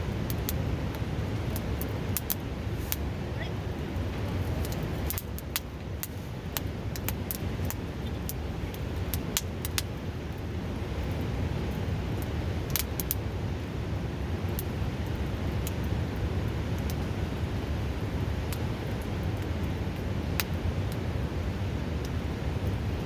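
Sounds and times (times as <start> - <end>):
campfire crackling and popping: 0.0 - 23.0
river rushing: 0.1 - 22.8.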